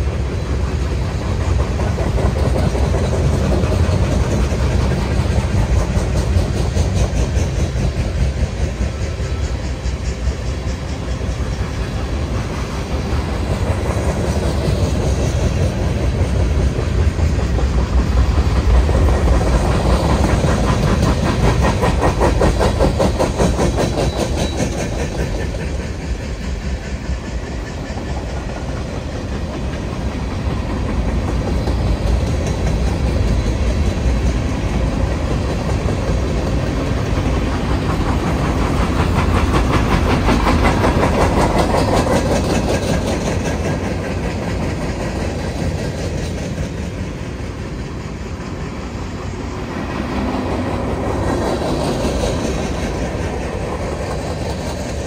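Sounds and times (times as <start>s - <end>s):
freight train rumbling past: 0.0s - 55.0s
steel wheels clicking over rail joints: 0.0s - 55.0s.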